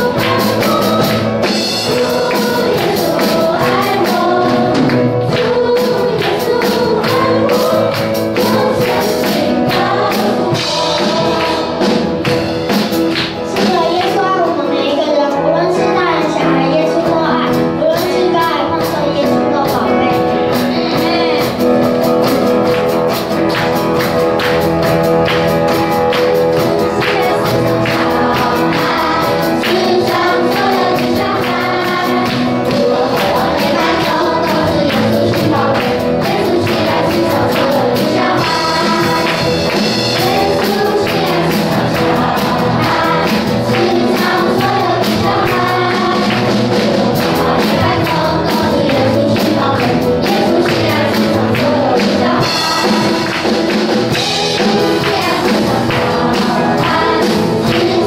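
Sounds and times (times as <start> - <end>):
percussion steady beat: 0.0 - 14.6, 17.4 - 58.0
children singing into microphones: 0.0 - 58.0
music accompaniment: 0.0 - 58.0.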